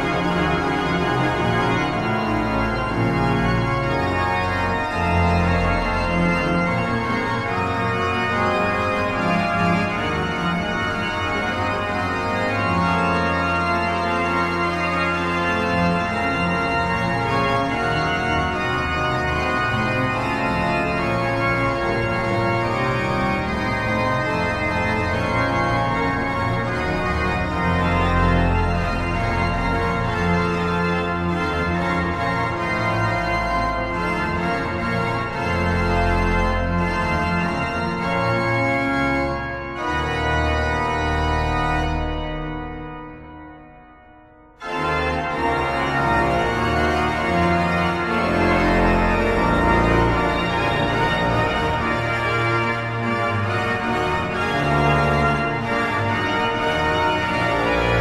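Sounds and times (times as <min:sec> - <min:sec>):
pipe organ sustained chords: 0:00.0 - 0:58.0.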